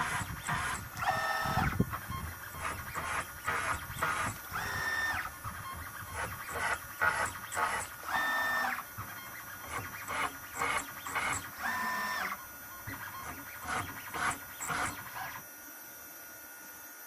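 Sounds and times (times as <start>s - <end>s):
drill cutting steel in bursts: 0.0s - 15.4s
spindle whine: 0.0s - 15.4s
low machine hum: 0.0s - 16.4s.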